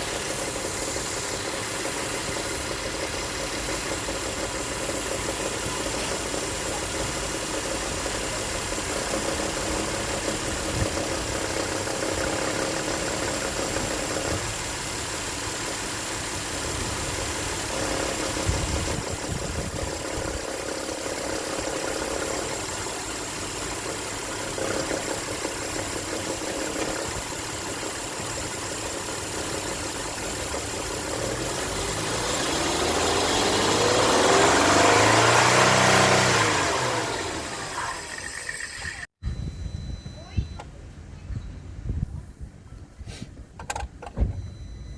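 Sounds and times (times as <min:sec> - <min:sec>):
engine knocking: 0:00.0 - 0:39.0
car engine idling: 0:00.0 - 0:39.1.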